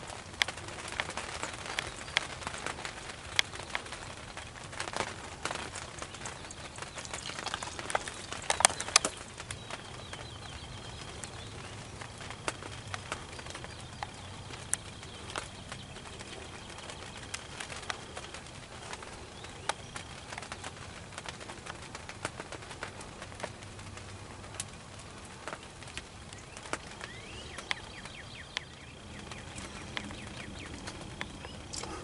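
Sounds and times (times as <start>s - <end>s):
songbird chirps: 0.0s - 32.0s
sharp ticks and clicks: 0.1s - 32.0s.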